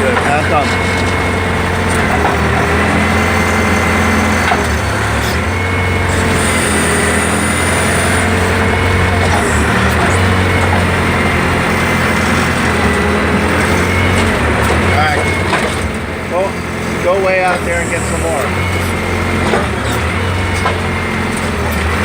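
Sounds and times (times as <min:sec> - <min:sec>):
diesel engine running: 0:00.0 - 0:22.0
hydraulic whine: 0:00.0 - 0:22.0.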